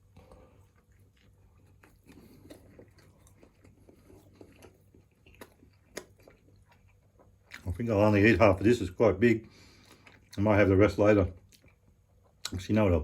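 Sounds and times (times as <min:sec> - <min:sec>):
faint chewing: 0:00.0 - 0:08.7, 0:09.4 - 0:12.6.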